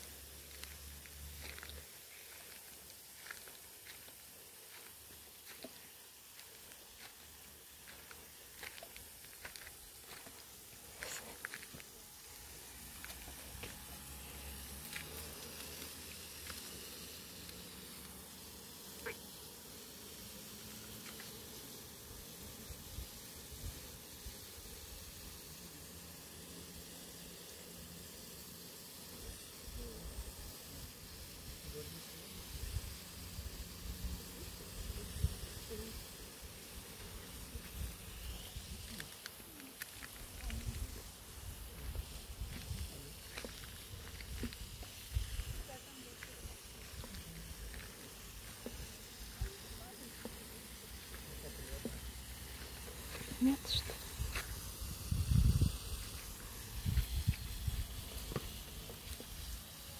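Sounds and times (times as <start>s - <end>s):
soft hiss: 0.0s - 59.9s.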